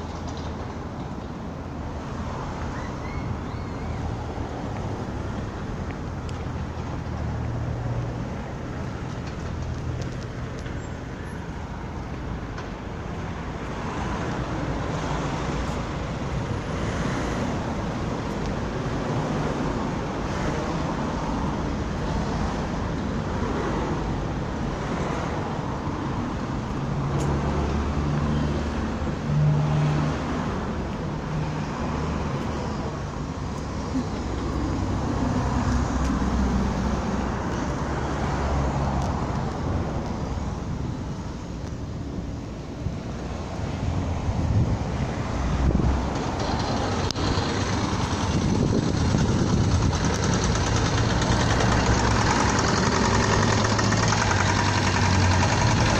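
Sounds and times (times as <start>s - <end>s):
cars passing close by: 0.0s - 55.9s.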